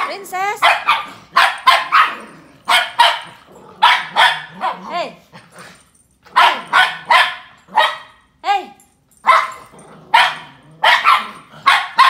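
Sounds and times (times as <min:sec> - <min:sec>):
dog yelping: 0:00.0 - 0:05.1, 0:06.3 - 0:08.2, 0:09.2 - 0:12.0
small dogs barking: 0:00.0 - 0:08.3, 0:09.2 - 0:12.0.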